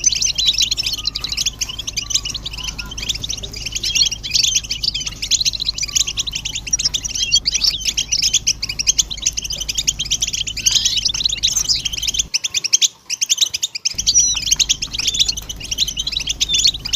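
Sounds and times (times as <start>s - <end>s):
faint low hum: 0.0s - 12.3s, 13.9s - 16.9s
goldfinches twittering and singing: 0.0s - 16.9s.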